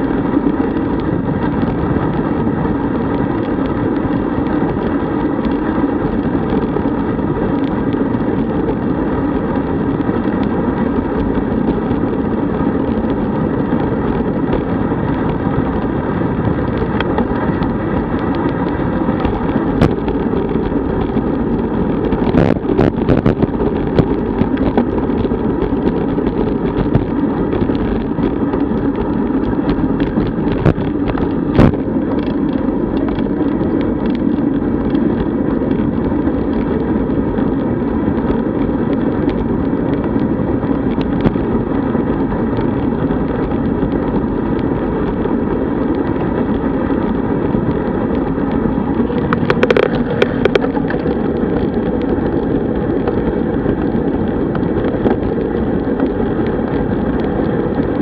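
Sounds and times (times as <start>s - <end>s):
bicycle road rumble: 0.0s - 58.0s
wind rush on microphone: 0.0s - 58.0s.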